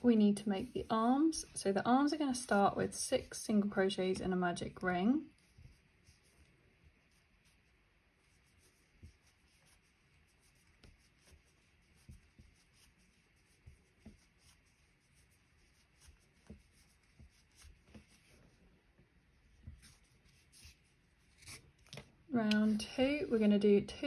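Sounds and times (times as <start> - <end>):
faint yarn rubbing: 0.0 - 24.0.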